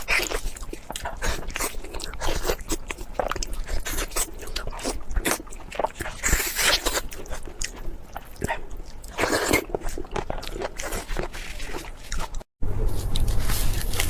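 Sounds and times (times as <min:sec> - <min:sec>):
crunchy chewing of food: 0:00.0 - 0:14.0.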